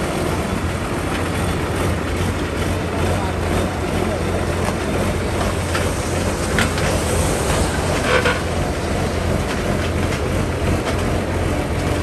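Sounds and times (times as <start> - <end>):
harvester engine humming: 0.0 - 12.0.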